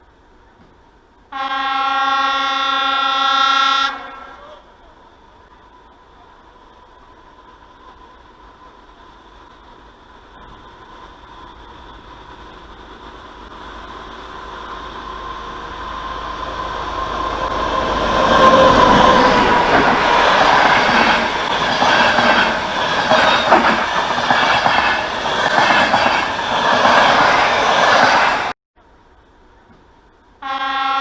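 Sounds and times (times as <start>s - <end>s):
passenger train passing: 0.0s - 31.0s.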